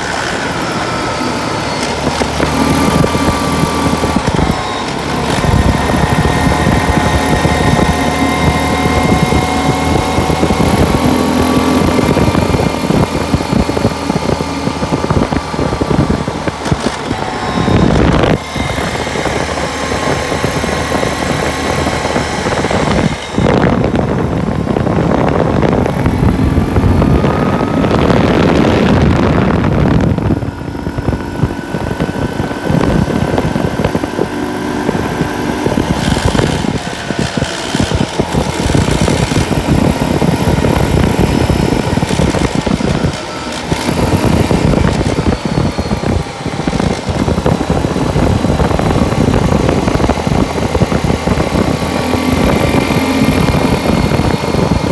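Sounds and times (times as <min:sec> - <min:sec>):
road and wind noise: 0:00.0 - 0:54.9
vehicle engine rumble: 0:00.0 - 0:54.9.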